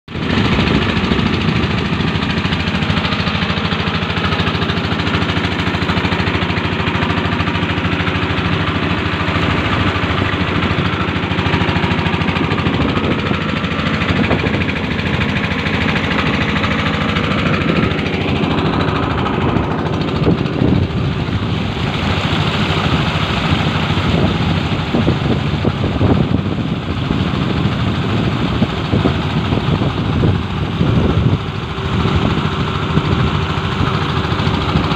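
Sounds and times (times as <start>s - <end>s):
boat engine running: 0.1s - 34.9s
water rushing along hull: 0.1s - 34.9s.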